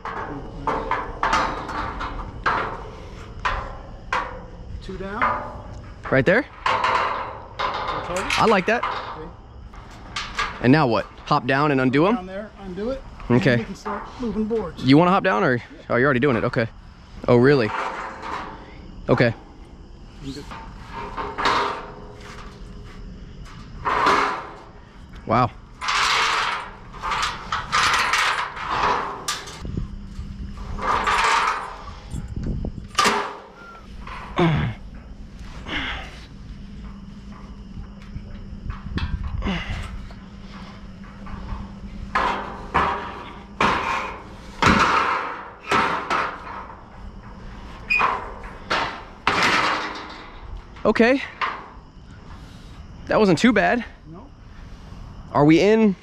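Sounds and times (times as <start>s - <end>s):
metal planks banging: 0.0s - 12.2s, 13.0s - 19.6s, 20.2s - 29.8s, 30.5s - 32.3s, 32.9s - 52.4s.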